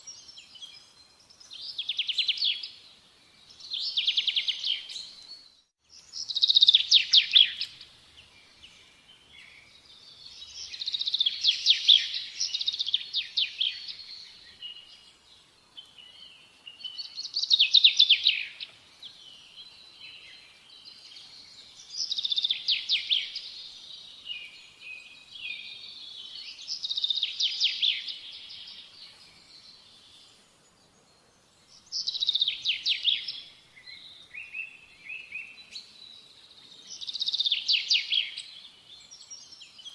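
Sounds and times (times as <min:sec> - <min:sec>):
soft bird chirps: 0:00.0 - 0:39.9.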